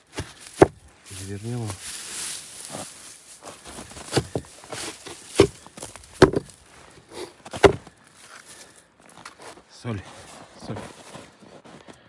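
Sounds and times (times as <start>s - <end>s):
packed snow crunching: 0.0s - 12.0s.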